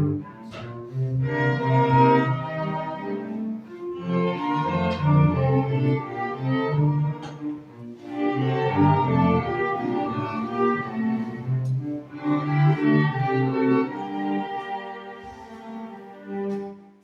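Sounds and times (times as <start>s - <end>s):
bowed string ensemble: 0.0s - 17.0s.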